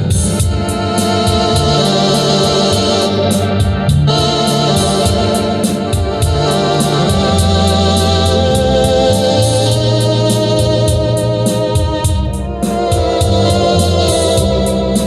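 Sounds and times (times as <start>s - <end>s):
electronic organ chords: 0.0s - 15.0s
high ticking beat: 0.0s - 15.0s.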